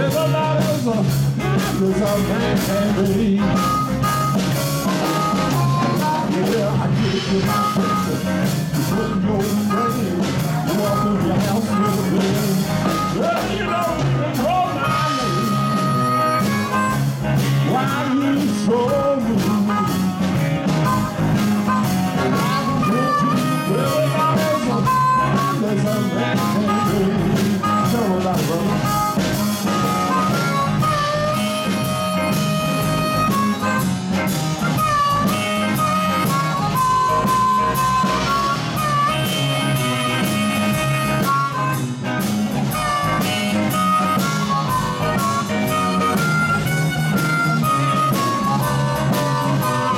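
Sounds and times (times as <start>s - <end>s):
amplified harmonica solo: 0.0s - 49.9s
blues band playing: 0.0s - 49.9s.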